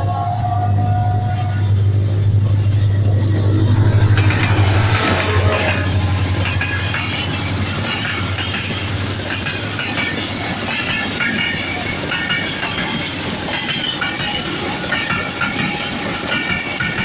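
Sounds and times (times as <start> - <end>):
high wheel squeals: 0.0 - 17.0
locomotive engine drone: 0.0 - 17.0
train wheels rumbling on rails: 0.0 - 17.0.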